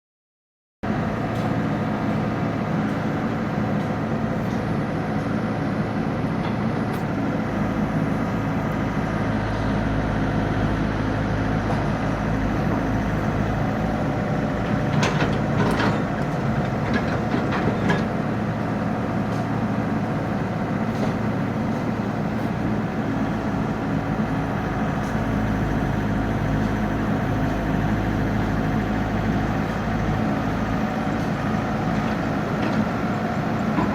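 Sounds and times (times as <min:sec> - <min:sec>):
excavator diesel engine running: 0:00.9 - 0:33.9.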